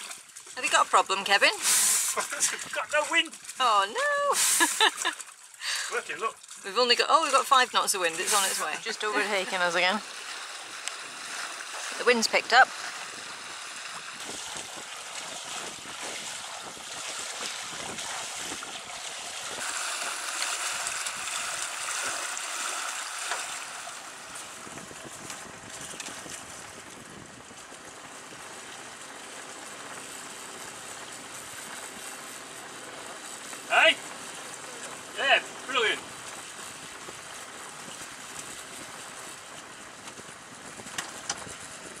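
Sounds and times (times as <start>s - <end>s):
water rushing: 0.0s - 42.0s
wind: 0.0s - 42.0s.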